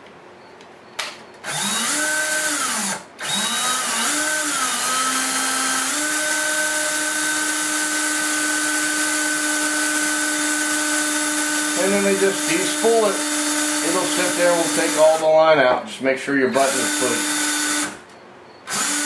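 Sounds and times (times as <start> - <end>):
cordless drill motor whine: 1.4 - 15.3, 16.5 - 18.0, 18.6 - 19.0.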